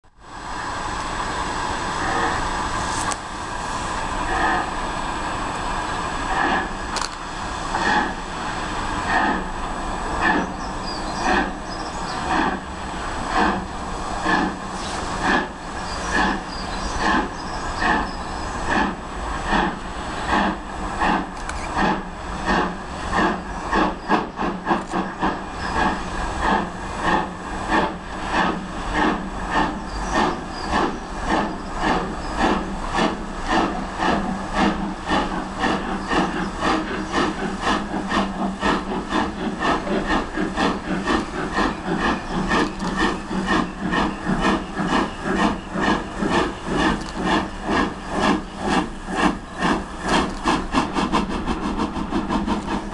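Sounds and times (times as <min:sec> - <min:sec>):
hiss of steam: 0:00.2 - 0:52.9
steam locomotive chuffing: 0:00.2 - 0:52.9.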